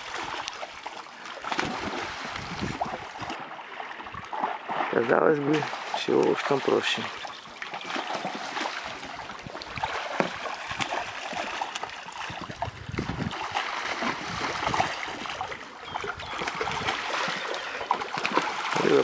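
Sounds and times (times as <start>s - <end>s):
fish splashing in water: 0.0s - 19.0s
water streaming off net: 0.0s - 19.0s.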